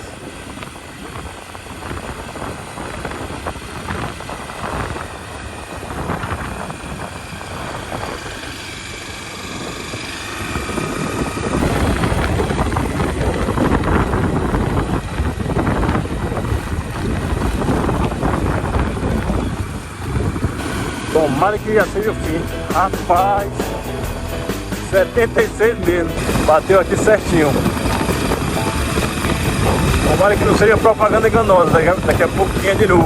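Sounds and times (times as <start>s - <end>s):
motorcycle engine running: 0.0s - 33.0s
tyre noise on gravel: 0.0s - 33.0s
wind rushing: 0.0s - 33.0s.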